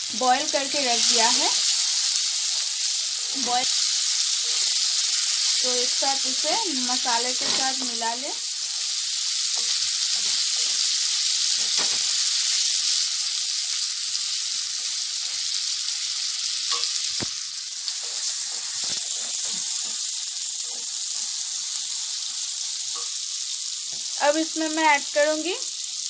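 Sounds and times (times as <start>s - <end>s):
food sizzling in oil: 0.0s - 26.0s.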